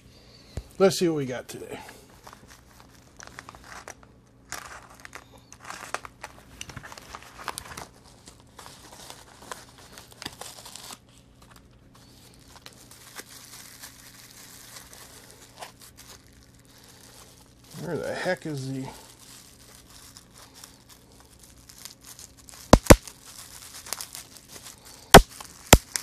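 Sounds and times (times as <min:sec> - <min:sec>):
plastic packaging crinkling and tearing: 0:01.9 - 0:26.0.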